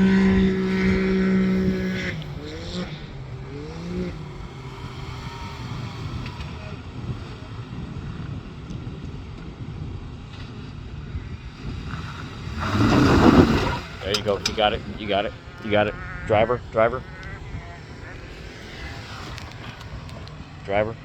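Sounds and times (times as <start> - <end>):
car engine at low revs: 0.0 - 21.0
wind on microphone: 0.0 - 21.0.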